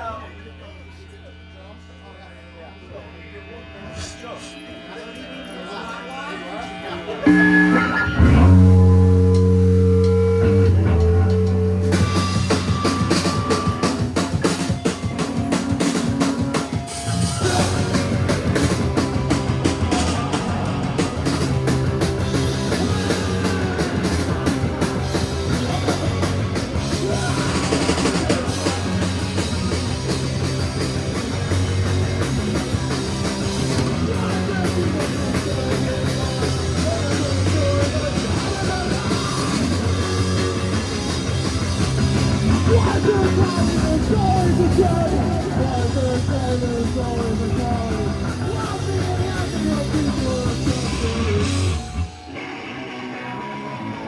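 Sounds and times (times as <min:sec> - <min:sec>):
drums: 0:00.0 - 0:54.0
guitar and bass chord ringing: 0:00.0 - 0:54.0
punk rock band playing: 0:02.7 - 0:54.0.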